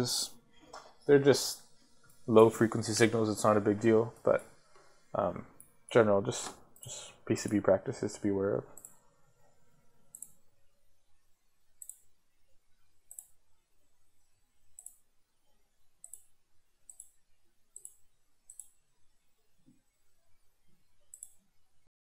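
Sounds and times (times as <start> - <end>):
faint low hum: 0.0 - 21.9.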